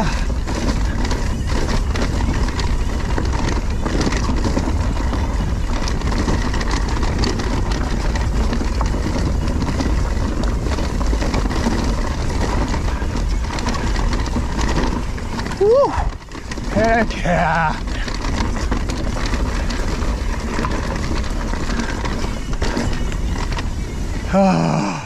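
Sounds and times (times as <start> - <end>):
bike frame clattering: 0.0 - 24.3
wind rumbling over microphone: 0.0 - 24.3
tyres rolling over dirt: 0.0 - 25.0.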